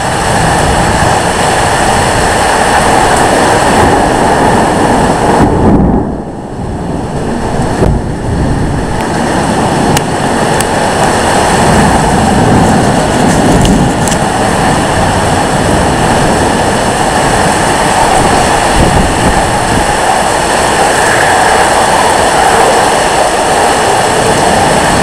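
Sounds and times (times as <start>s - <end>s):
heavy rain pouring: 0.0s - 25.0s
wind buffeting microphone: 0.0s - 25.0s.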